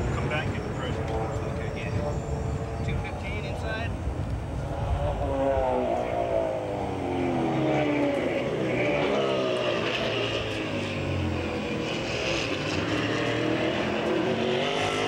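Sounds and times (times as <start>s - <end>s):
race car engines rumbling: 0.0s - 15.0s.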